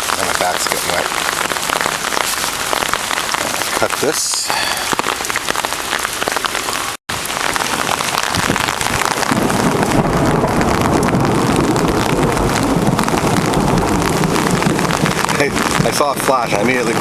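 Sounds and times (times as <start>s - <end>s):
rain pattering on umbrella: 0.0s - 17.0s
thunder rumbling: 0.0s - 17.0s.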